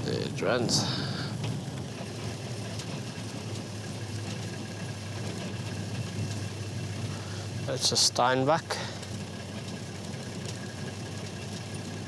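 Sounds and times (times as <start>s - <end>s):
vehicle engine running low revs: 0.0s - 12.0s.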